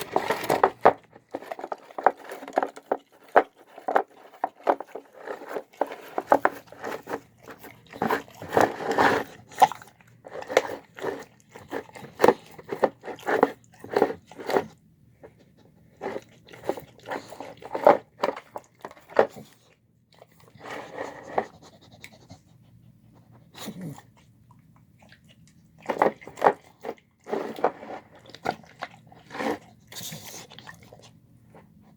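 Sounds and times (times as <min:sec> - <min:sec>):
dog chewing food: 0:00.0 - 0:22.4, 0:23.7 - 0:31.2.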